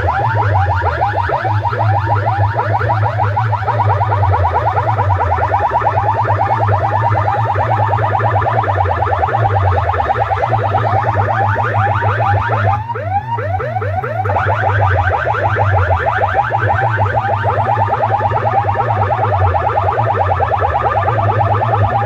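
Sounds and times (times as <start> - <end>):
electronic siren chirps: 0.0 - 22.0
heavy steady bass: 0.0 - 22.0.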